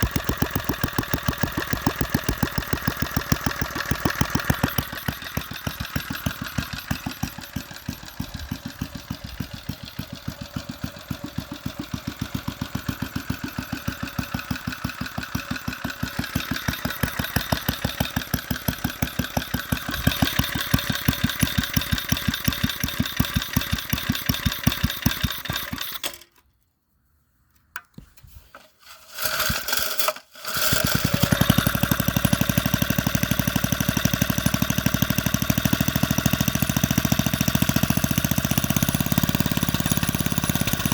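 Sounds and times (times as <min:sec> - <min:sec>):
engine sputters: 0:00.0 - 0:26.0, 0:30.5 - 0:40.9
small engine idling: 0:00.0 - 0:26.4, 0:29.2 - 0:40.9.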